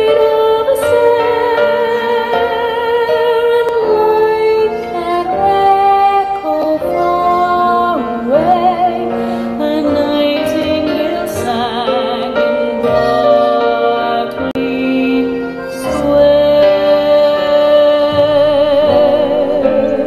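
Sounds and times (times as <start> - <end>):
instrumental accompaniment: 0.0 - 20.0
woman singing a ballad: 0.0 - 20.0.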